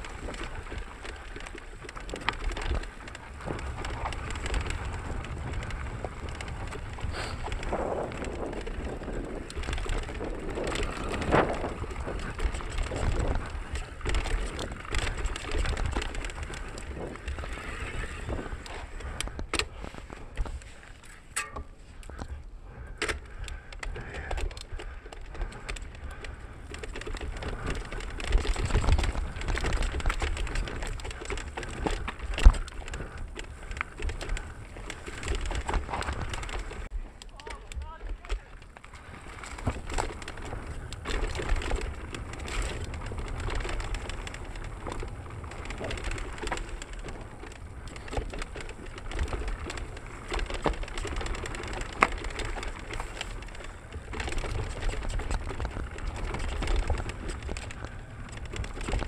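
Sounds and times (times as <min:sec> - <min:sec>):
bike rattling: 0:00.0 - 0:59.0
bike tyres crunching over dirt: 0:00.0 - 0:59.0.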